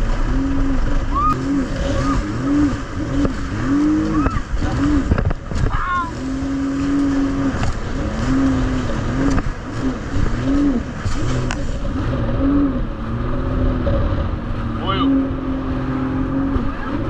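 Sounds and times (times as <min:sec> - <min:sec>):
jet ski engine running: 0:00.0 - 0:17.0
rushing wind and spray: 0:00.0 - 0:17.0.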